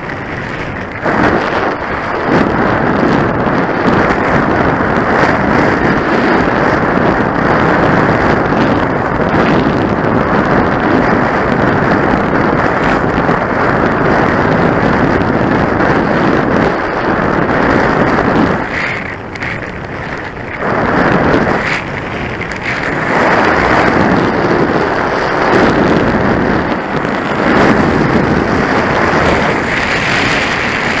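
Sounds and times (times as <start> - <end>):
road rush: 0.0 - 31.0
wind buffeting microphone: 0.0 - 31.0.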